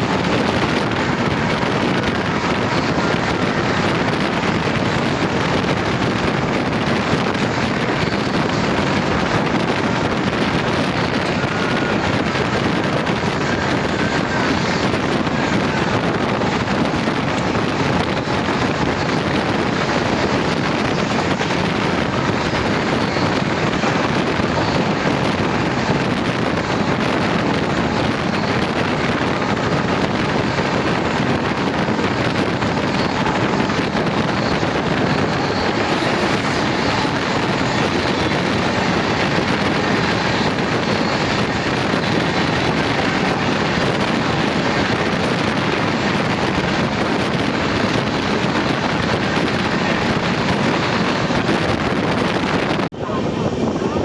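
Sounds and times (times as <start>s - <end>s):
train wheels rumbling on track: 0.0s - 54.0s
wind buffeting microphone: 0.0s - 54.0s.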